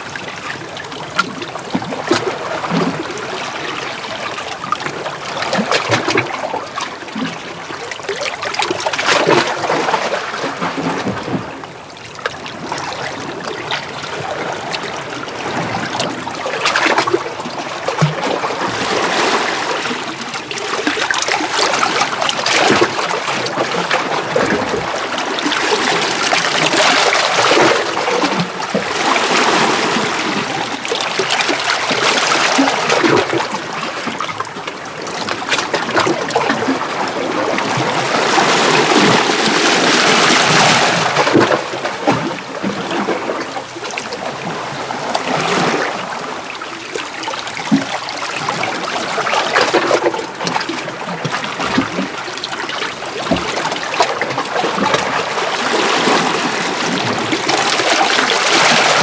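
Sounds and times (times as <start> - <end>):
small waves among rocks: 0.0 - 59.0.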